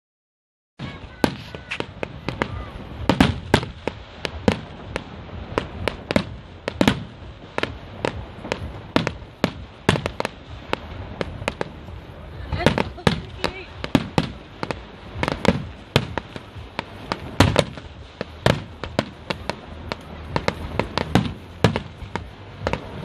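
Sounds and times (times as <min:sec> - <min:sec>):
fireworks bursting with sharp bangs: 0:00.8 - 0:23.0.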